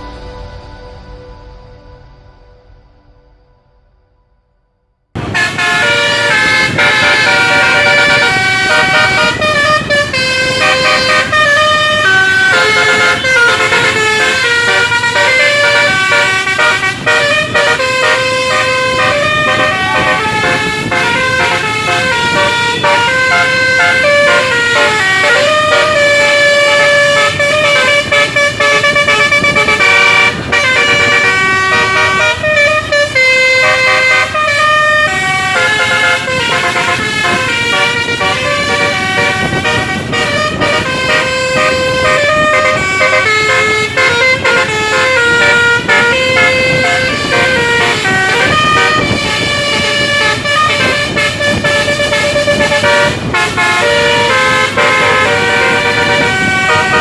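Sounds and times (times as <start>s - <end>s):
bus horn playing tune: 5.2s - 57.0s.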